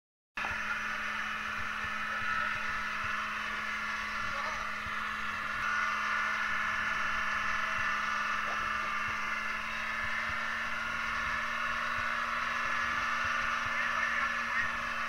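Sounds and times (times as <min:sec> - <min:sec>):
diesel engine racing: 0:00.4 - 0:15.0.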